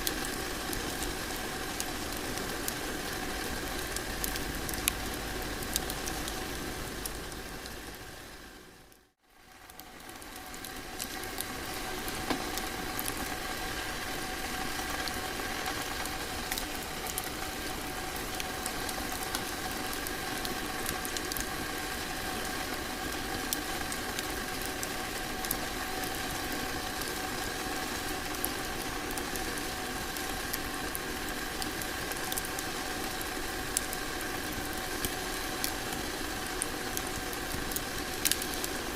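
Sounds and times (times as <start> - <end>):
fire crackles and pops: 0.0 - 38.9.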